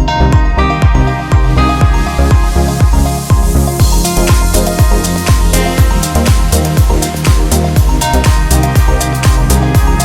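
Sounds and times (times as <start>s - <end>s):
kick drum: 0.0s - 10.0s.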